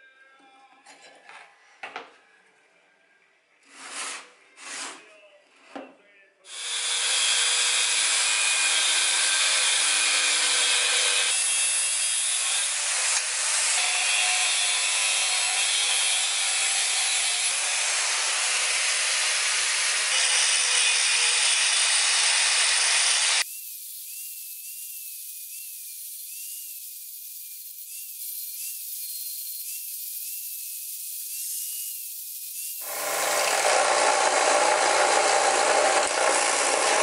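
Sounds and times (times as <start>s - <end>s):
angle grinder cutting steel: 6.5s - 37.0s.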